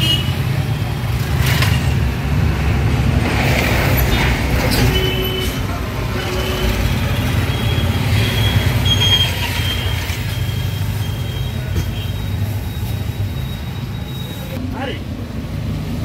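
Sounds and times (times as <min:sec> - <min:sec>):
auto-rickshaw engine rumble: 0:00.0 - 0:16.0
road and traffic noise: 0:00.0 - 0:16.0.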